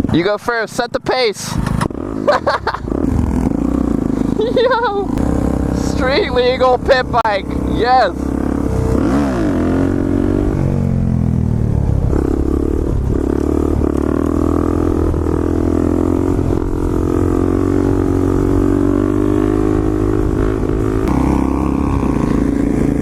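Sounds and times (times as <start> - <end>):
small motorcycle engine running: 1.5 - 23.0.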